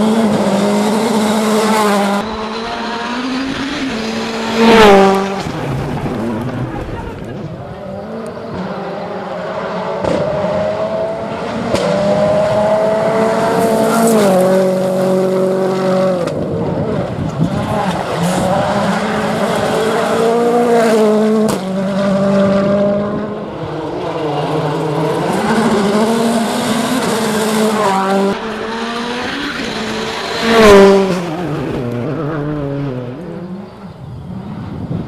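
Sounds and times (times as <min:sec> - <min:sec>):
rally car engine shifting gears: 0:00.0 - 0:35.0.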